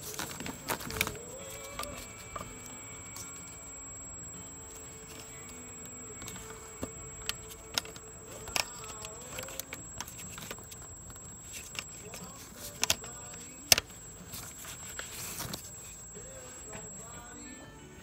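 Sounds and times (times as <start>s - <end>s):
quiet background music: 0.0s - 18.0s.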